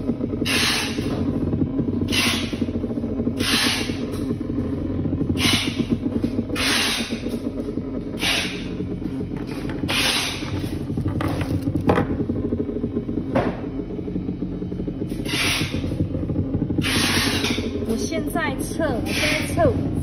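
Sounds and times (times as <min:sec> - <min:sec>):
vibrator buzzing: 0:00.0 - 0:20.0.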